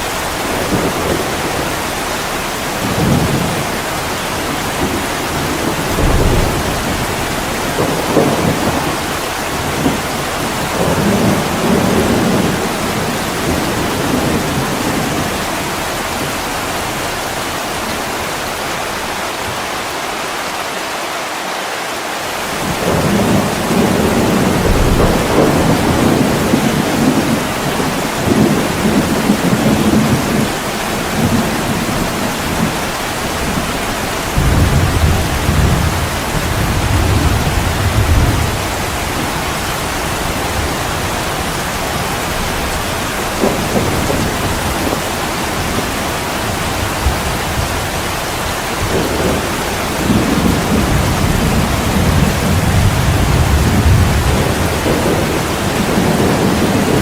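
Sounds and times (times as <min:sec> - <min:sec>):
rolling thunder: 0:00.0 - 0:18.6, 0:22.6 - 0:57.0
heavy rain on a window: 0:00.0 - 0:57.0.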